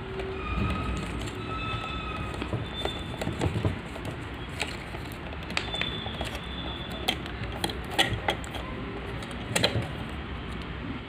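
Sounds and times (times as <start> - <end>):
wire connectors clicking and rattling: 0.0 - 10.7
steady background noise: 0.0 - 11.0.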